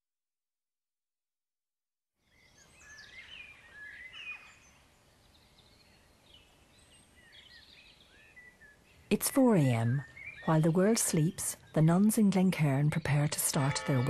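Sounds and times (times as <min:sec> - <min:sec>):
songbirds chirping and warbling: 0:02.2 - 0:14.0.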